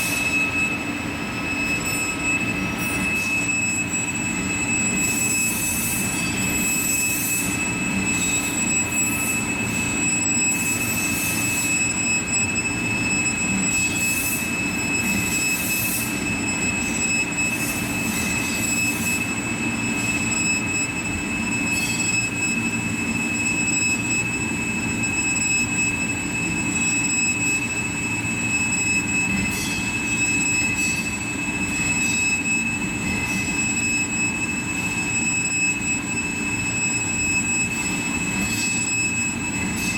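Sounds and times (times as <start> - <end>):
high-pitched whines: 0.0 - 39.9.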